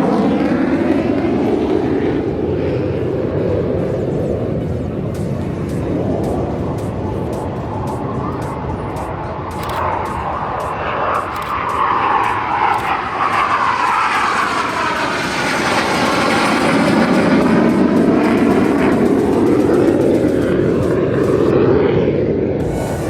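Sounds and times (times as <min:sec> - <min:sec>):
jet engine whine flying past: 0:00.0 - 0:23.0.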